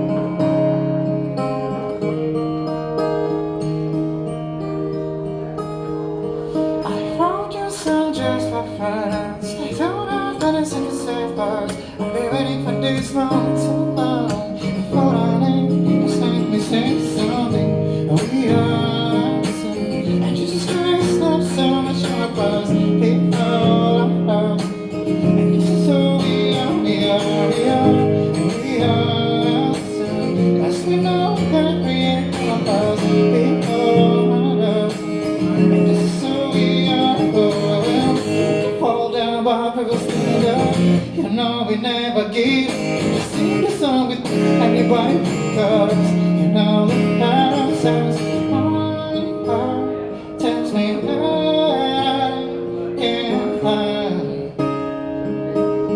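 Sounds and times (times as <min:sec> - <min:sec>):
acoustic guitar strummed and picked: 0:00.0 - 0:55.9
person singing: 0:06.8 - 0:55.9.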